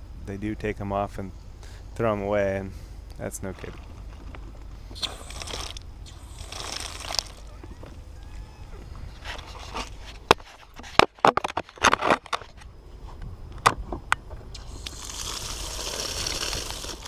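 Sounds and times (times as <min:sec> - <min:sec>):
steady hiss: 0:00.0 - 0:11.0, 0:12.8 - 0:17.0.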